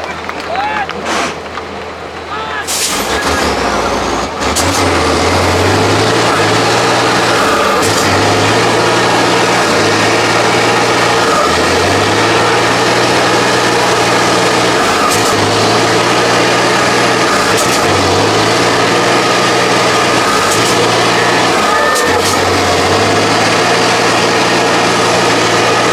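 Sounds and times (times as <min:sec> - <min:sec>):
truck engine running hard: 0:00.0 - 0:25.9.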